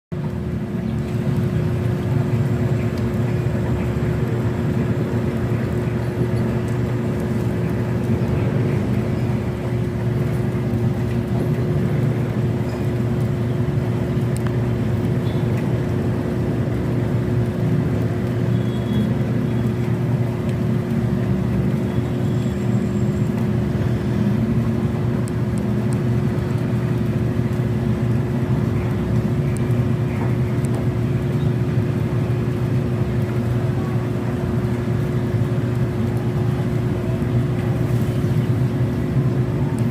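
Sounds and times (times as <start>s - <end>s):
constant hum: 0.1s - 39.9s
low mechanical rumble: 0.1s - 39.9s.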